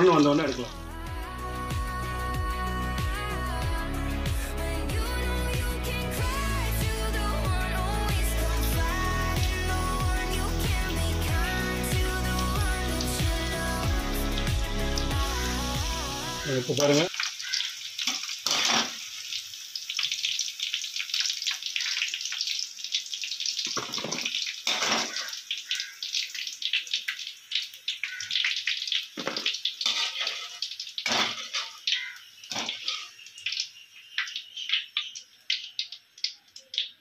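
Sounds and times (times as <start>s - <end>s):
food deep-frying in oil: 0.0s - 3.2s, 6.1s - 37.0s.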